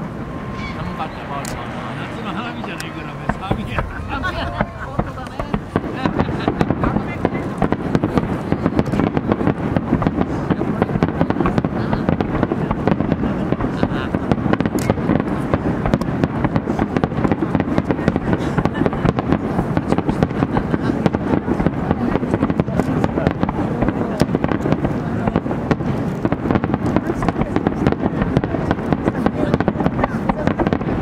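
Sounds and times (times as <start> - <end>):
deep rumble: 0.0 - 31.0
fireworks booming and cracking: 0.0 - 31.0.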